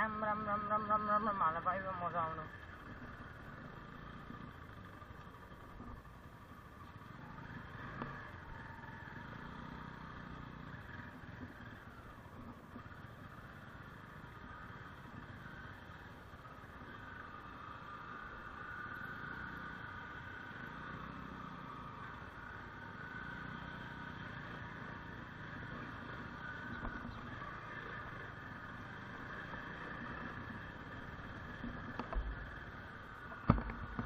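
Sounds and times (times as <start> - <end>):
motorcycle engine running: 0.0 - 34.0
road noise on dirt road: 0.0 - 34.0.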